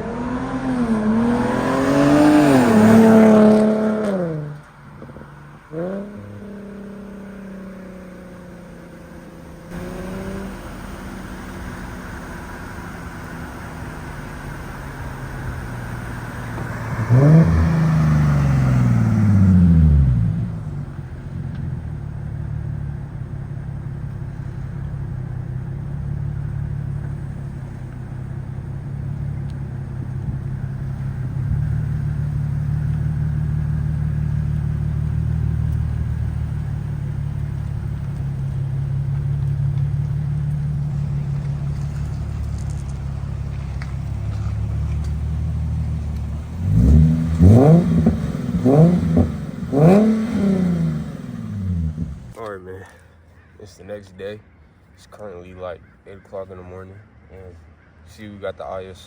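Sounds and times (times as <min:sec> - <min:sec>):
car engine revving: 0:00.0 - 0:52.4
car engine idling: 0:01.8 - 0:53.5.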